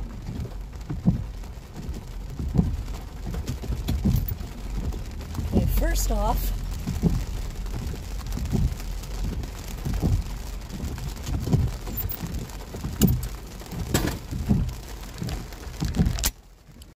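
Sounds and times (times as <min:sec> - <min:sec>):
low rumble: 0:00.0 - 0:16.2
rain on a car roof: 0:00.0 - 0:16.9
soft regular beat: 0:00.1 - 0:16.1.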